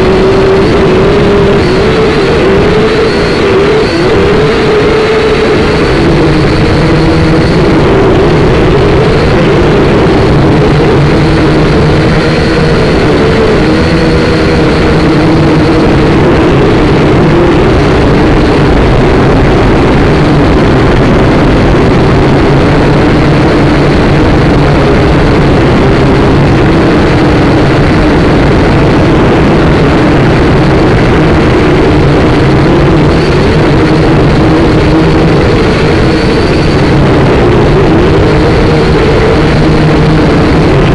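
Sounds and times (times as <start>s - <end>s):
quadcopter motors buzzing: 0.0s - 40.9s.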